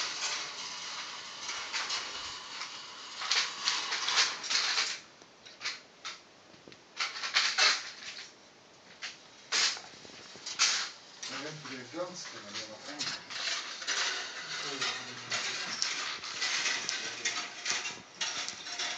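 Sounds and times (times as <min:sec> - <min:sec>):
glass marbles rattling on wire tracks: 0:00.0 - 0:06.2, 0:07.0 - 0:08.3, 0:09.5 - 0:09.8, 0:10.4 - 0:18.9.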